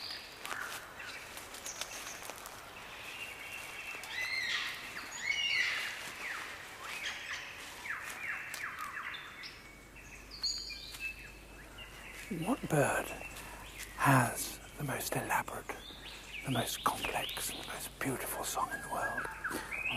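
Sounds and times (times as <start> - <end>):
birds chirping and whistling: 0.0 - 19.9
faint background hiss: 0.0 - 19.9.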